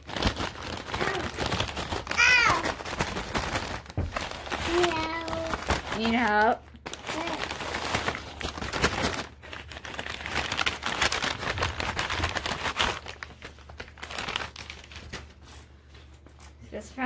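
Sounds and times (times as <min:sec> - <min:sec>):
paper bag crinkling: 0:00.0 - 0:16.6.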